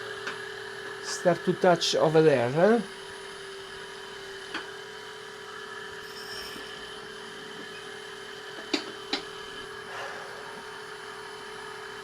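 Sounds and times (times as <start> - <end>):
grinder wheel humming and hissing: 0.0 - 12.0.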